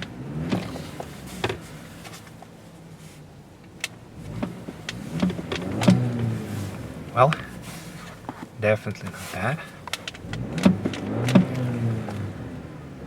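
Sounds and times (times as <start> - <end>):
muffled car engine idling and revving: 0.0 - 13.0.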